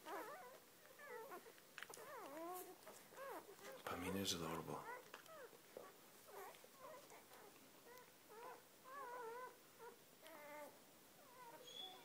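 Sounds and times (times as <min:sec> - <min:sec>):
puppies squeaking and whimpering: 0:00.0 - 0:12.0.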